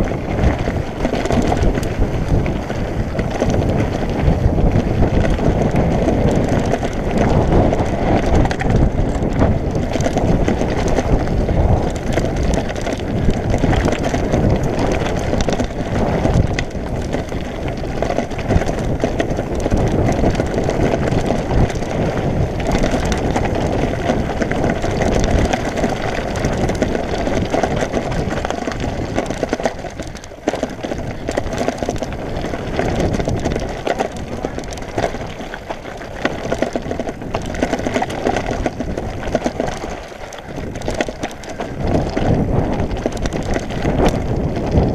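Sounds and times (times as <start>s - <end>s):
bike rattling over ground: 0.0s - 44.9s
wind buffeting microphone: 0.0s - 44.9s.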